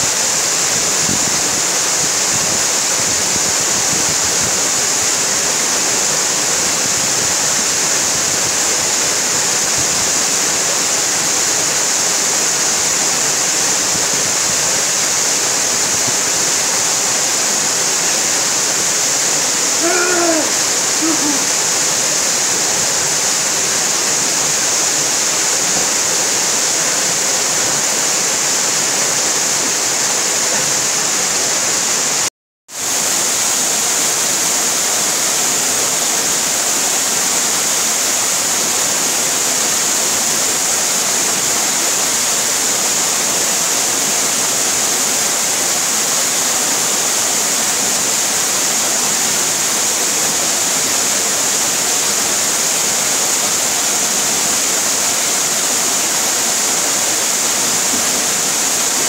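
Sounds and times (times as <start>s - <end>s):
waterfall rushing into pool: 0.0s - 59.0s.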